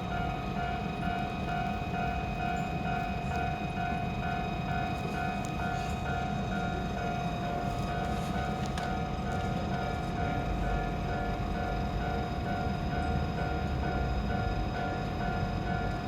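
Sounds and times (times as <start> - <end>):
level crossing warning bell: 0.0 - 16.0.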